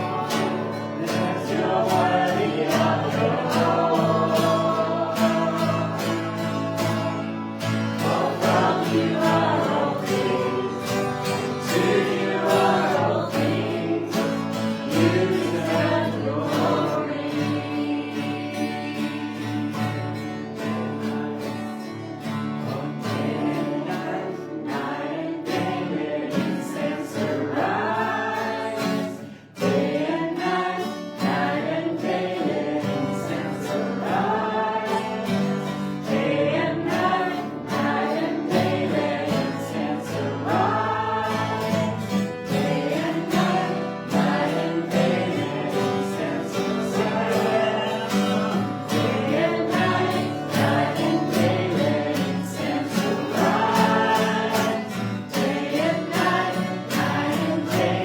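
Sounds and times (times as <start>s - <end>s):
group singing worship song: 0.0s - 58.0s.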